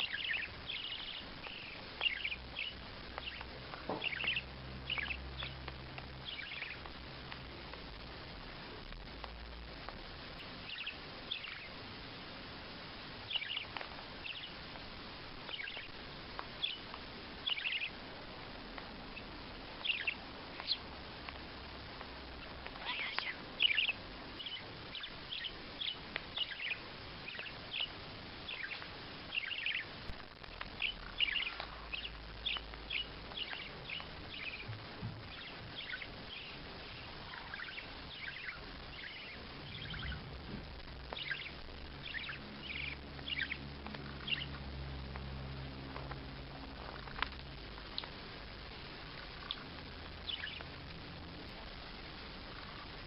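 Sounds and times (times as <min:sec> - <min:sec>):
birds chirping: 0:00.0 - 0:53.0
steady background hiss: 0:00.0 - 0:53.0.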